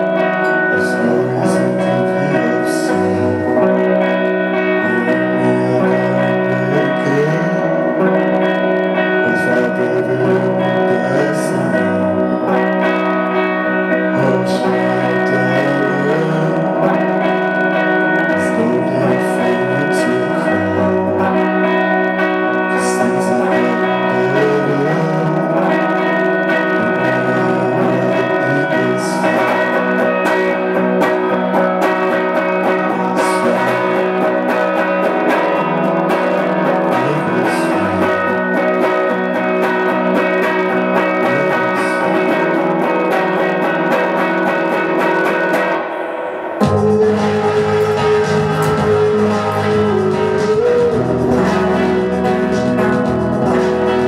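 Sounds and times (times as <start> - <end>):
electric guitar chords: 0.0 - 54.0
man singing: 0.0 - 54.0.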